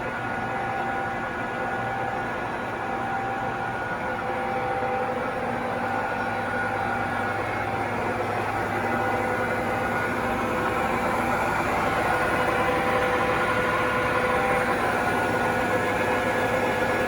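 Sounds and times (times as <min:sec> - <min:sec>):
lathe humming and whining: 0:00.0 - 0:17.0.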